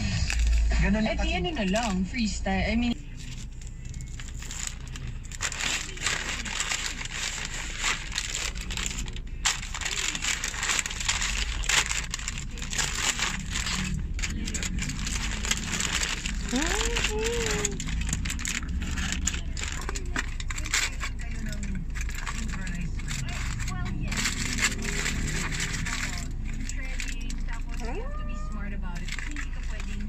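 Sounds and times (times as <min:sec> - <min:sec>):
paper and foil crinkling: 0:00.0 - 0:02.3, 0:02.9 - 0:30.0
low steady rumble: 0:00.0 - 0:30.0.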